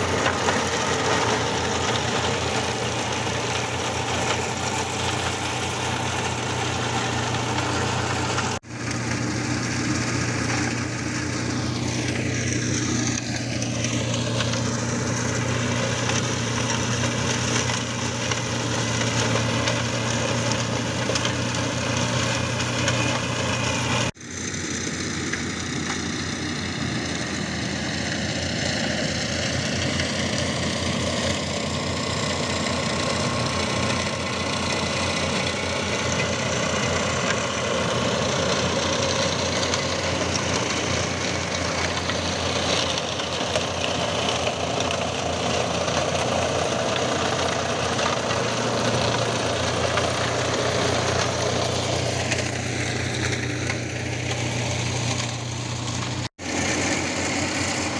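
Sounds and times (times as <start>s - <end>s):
flail mulcher shredding branches: 0.0s - 57.9s
tractor diesel engine under load: 0.0s - 57.9s.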